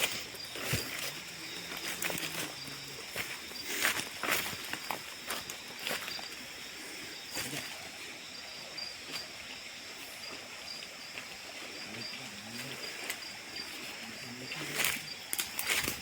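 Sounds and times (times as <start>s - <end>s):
high pulsing insect trill: 0.0s - 16.0s.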